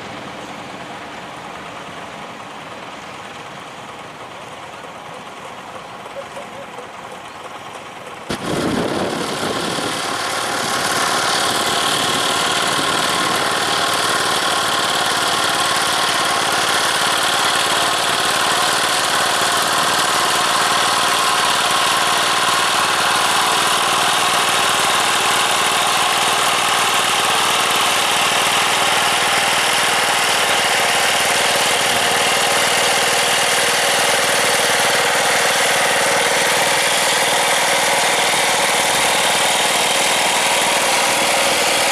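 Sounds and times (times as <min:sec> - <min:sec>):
diesel tractor engine: 0:00.0 - 0:41.9.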